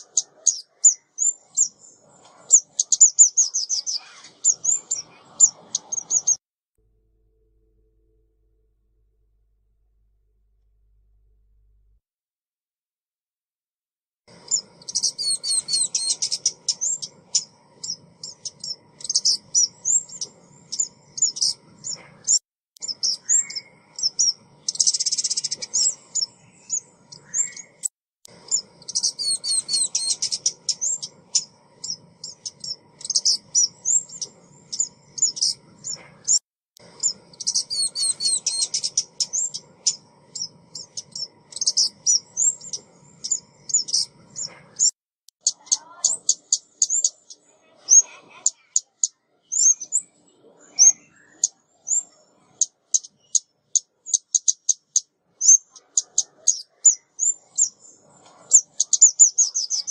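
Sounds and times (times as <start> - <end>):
small bird chirping and twittering: 0.0 - 6.4, 14.3 - 59.9.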